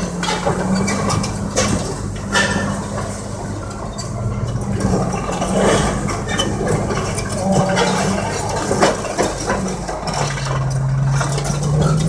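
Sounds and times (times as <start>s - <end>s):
dozer diesel engine running: 0.0s - 12.0s
metallic track clanks: 0.0s - 12.0s.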